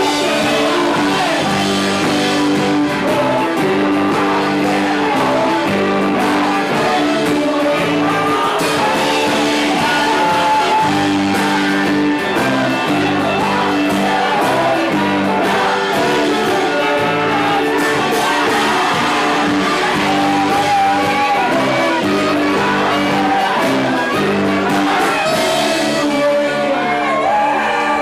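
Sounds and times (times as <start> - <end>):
live rock band playing: 0.0 - 28.0
person singing: 0.0 - 28.0
strummed electric guitar chords: 0.0 - 28.0.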